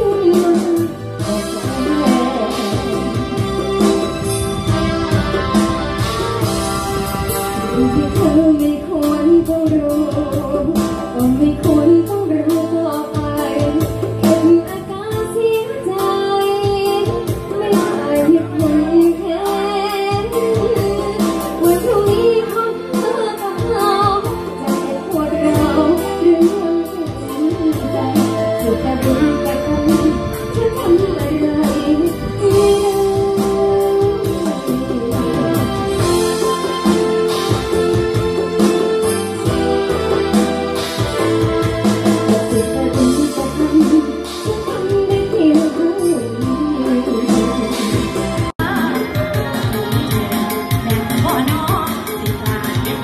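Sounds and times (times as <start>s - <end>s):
song with singing and beat: 0.0s - 53.0s.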